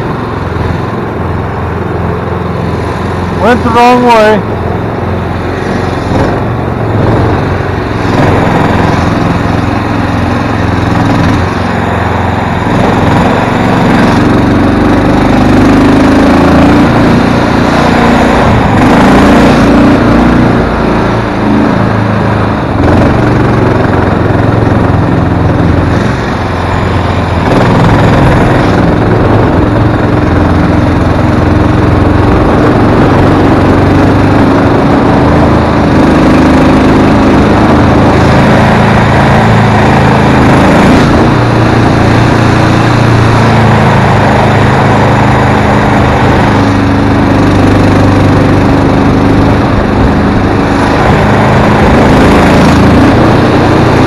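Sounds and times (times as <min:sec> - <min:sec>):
small boat motor running: 0:00.0 - 0:54.0.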